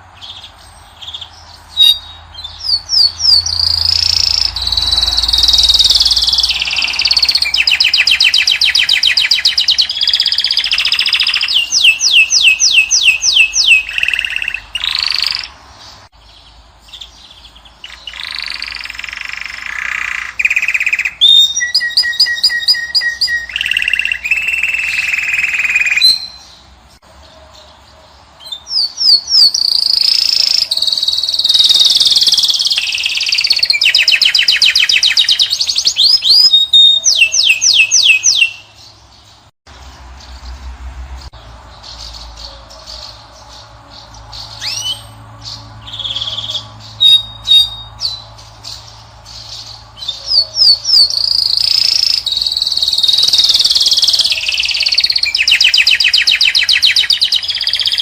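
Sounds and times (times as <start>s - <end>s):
finches singing with trills: 0.0s - 39.5s, 41.2s - 58.0s.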